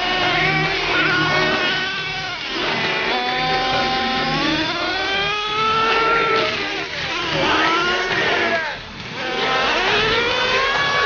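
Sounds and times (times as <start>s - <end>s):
rc truck engine revving: 0.0s - 11.0s.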